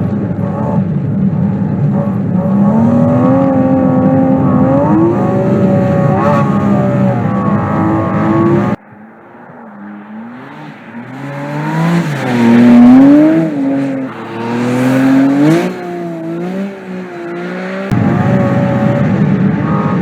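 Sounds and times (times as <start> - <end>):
sports car engine revving: 0.0 - 20.0.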